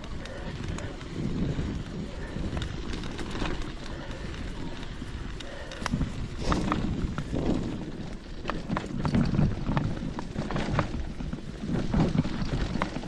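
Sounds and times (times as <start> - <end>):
footsteps on forest trail: 0.0 - 10.8
sharp clicks and crunches: 0.0 - 13.0
wind buffeting microphone: 0.0 - 13.0.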